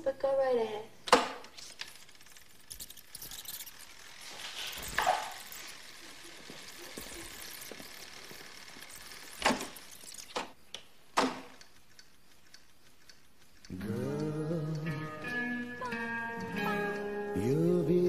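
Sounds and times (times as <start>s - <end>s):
low room noise: 0.0s - 18.0s.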